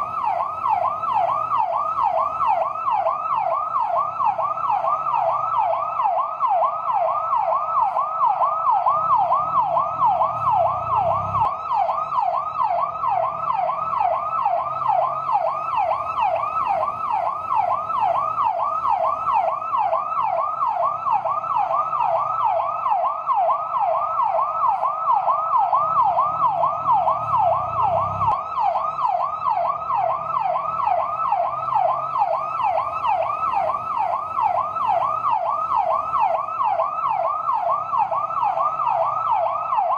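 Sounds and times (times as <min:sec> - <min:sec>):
electronic yelp siren: 0:00.0 - 0:39.9.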